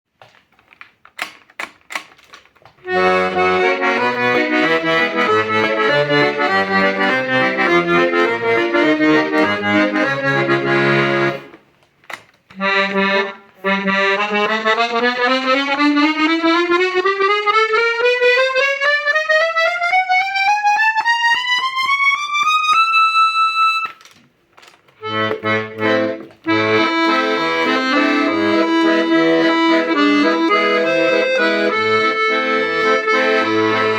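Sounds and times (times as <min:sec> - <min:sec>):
accordion clicks: 0:00.2 - 0:33.9
piano accordion playing: 0:02.8 - 0:11.6, 0:12.5 - 0:24.1, 0:25.0 - 0:33.9.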